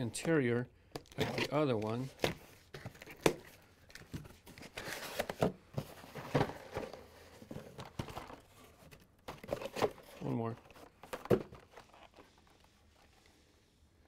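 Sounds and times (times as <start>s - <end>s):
rustling and scraping of cardboard: 1.2s - 13.6s.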